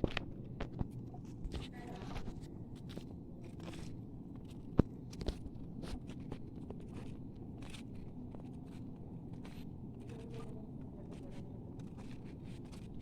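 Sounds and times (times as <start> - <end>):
footsteps crunching: 2.0 - 13.0.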